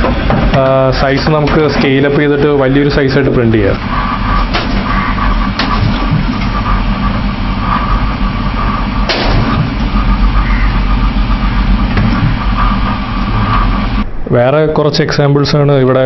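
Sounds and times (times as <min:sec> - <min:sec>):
stepper motors whining: 0:00.0 - 0:14.1
motors and fans humming: 0:00.0 - 0:14.2.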